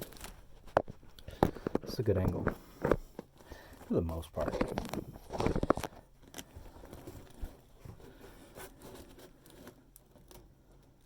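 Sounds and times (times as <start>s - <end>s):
vent hose rustling and scraping: 0.0s - 11.0s.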